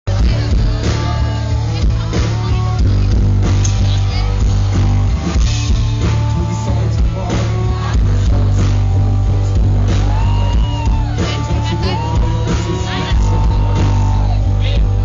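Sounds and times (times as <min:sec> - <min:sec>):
live rock band playing: 0:00.1 - 0:15.0.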